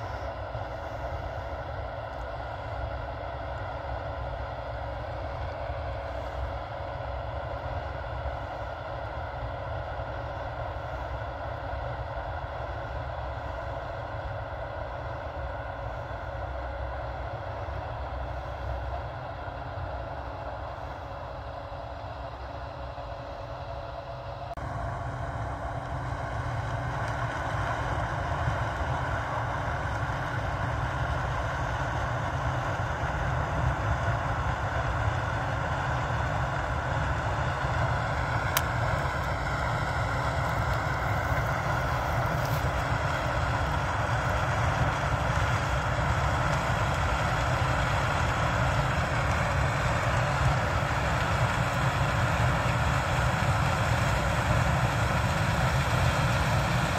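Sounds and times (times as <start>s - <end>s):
combine harvester drone: 0.0s - 56.9s.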